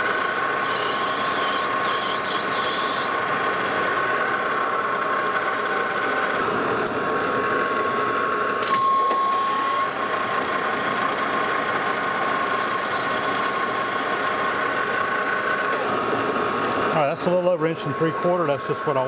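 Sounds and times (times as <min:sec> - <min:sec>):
metal lathe humming: 0:00.0 - 0:08.6, 0:09.5 - 0:19.0.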